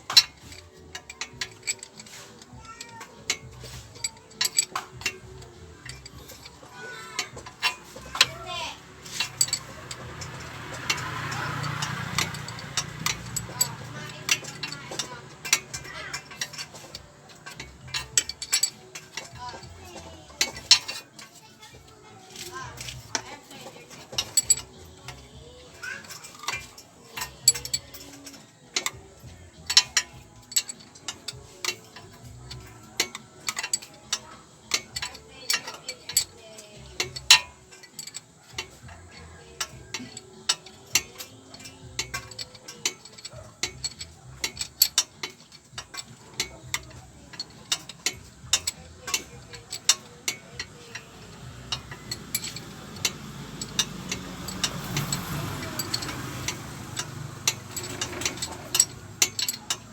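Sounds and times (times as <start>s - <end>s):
ratchet wrench clicking on bolts: 0.0s - 59.9s.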